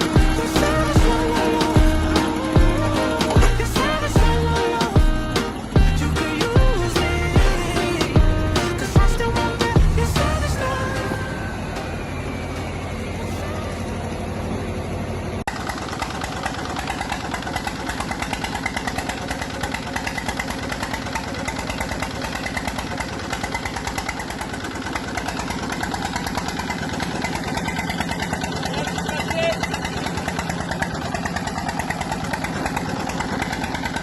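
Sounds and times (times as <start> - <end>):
farm machinery engine running: 0.0 - 34.0.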